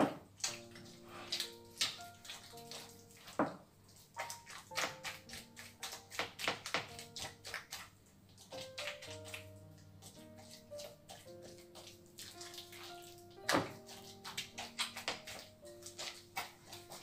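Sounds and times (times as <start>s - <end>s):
spatula slapping sticky dough: 0.0s - 17.0s
soft background music: 0.3s - 17.0s.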